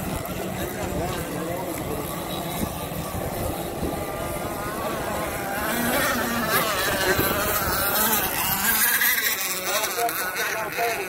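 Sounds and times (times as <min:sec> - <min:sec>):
model boat engines whining: 0:00.0 - 0:11.0.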